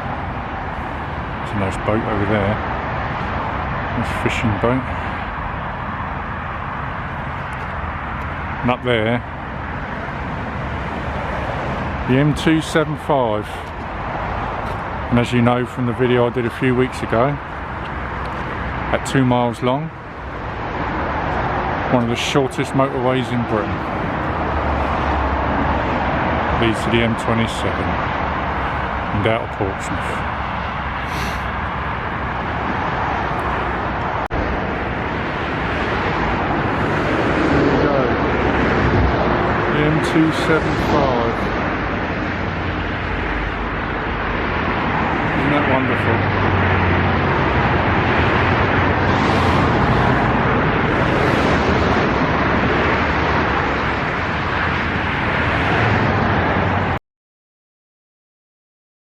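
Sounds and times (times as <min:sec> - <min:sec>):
motorway traffic roar: 0:00.0 - 0:57.0
vehicles passing: 0:00.0 - 0:57.0.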